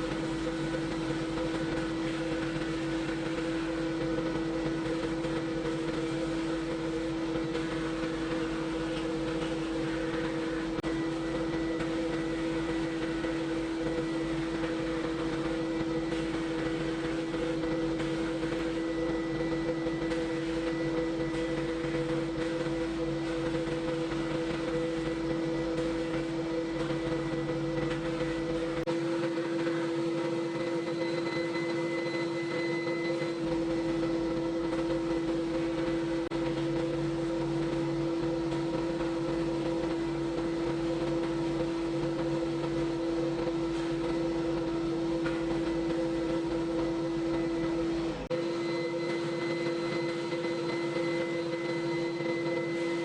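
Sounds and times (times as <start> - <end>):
machine humming: 0.0 - 53.0.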